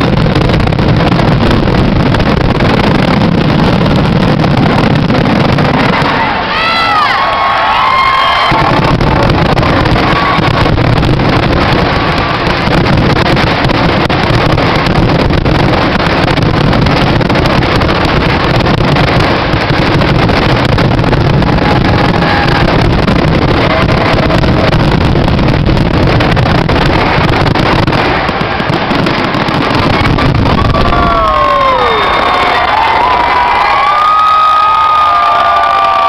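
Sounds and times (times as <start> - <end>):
fireworks shells bursting: 0.0 - 34.2.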